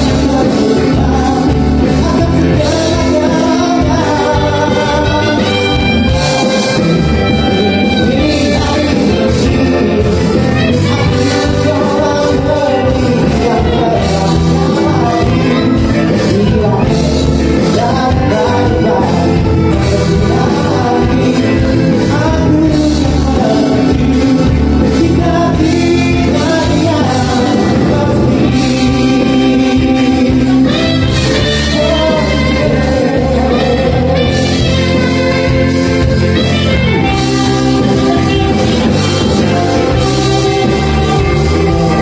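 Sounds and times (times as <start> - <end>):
live band playing: 0.0 - 42.0
person singing: 0.0 - 42.0.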